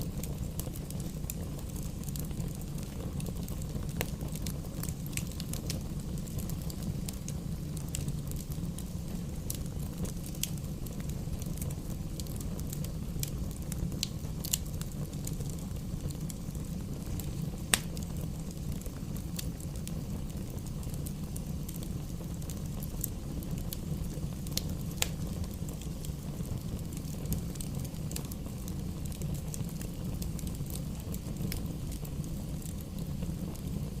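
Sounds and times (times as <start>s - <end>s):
campfire flames rumbling: 0.0s - 34.0s
sharp crackles and pops: 0.0s - 34.0s.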